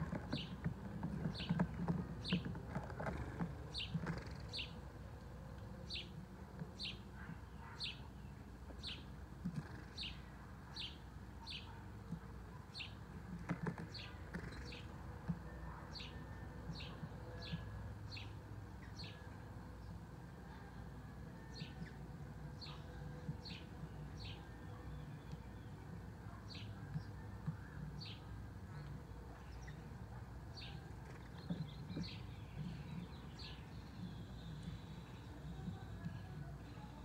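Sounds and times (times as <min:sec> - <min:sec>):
sparrows chirping: 0:00.0 - 0:37.0.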